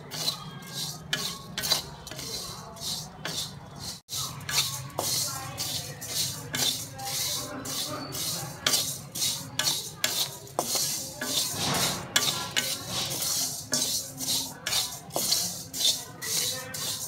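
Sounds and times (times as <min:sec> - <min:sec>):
spatula scraping iron pan: 0:00.0 - 0:17.0.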